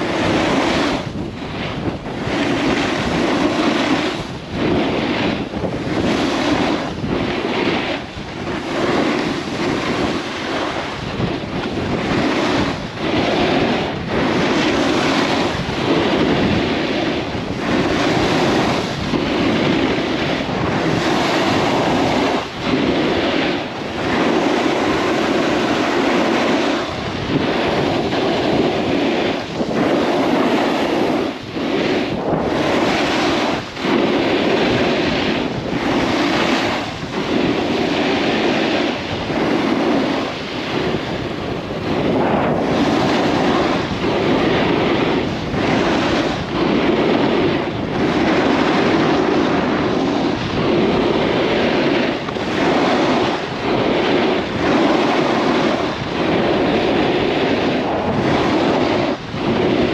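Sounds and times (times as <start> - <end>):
wind rushing over microphone: 0.0 - 59.9
skis scraping packed snow: 2.2 - 11.1, 11.8 - 59.8.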